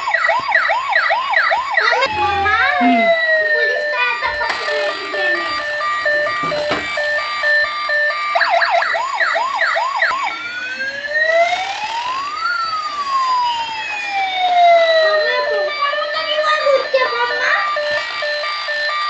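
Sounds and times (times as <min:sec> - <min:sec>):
toy electronic siren: 0:00.0 - 0:19.0
second siren sweep: 0:01.2 - 0:19.0.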